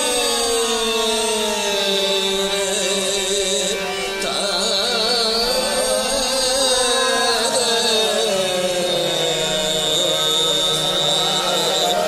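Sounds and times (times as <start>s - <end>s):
man singing ornamented melody: 0.0s - 12.0s
sustained harmonium: 0.0s - 12.0s.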